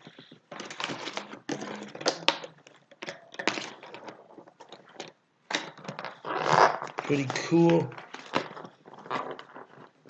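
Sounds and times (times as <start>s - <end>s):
toy packaging rustling and crinkling: 0.0s - 10.0s.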